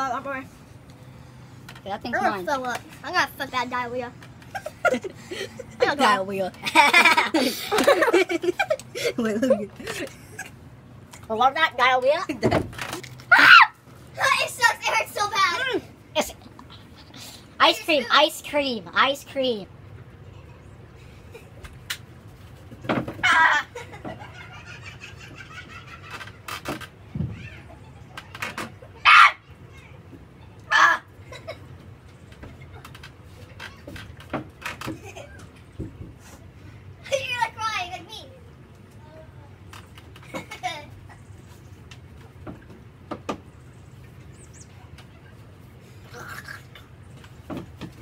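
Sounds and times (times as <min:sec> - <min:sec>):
low background hum: 0:00.0 - 0:48.0.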